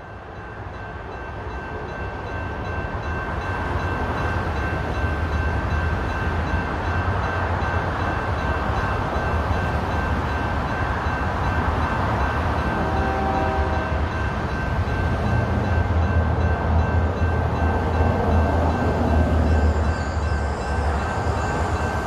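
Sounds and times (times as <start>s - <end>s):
diesel locomotive engine rumble: 0.2s - 22.0s.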